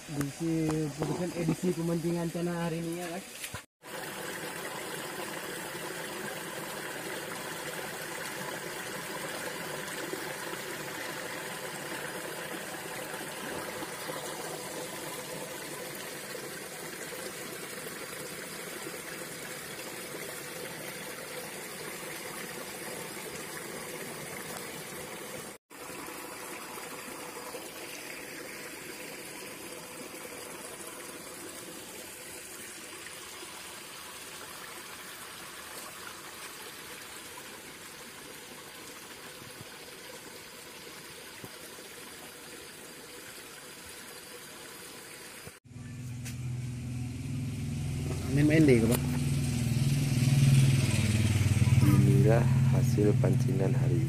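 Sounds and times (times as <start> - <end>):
stream water rushing: 0.0 - 45.6.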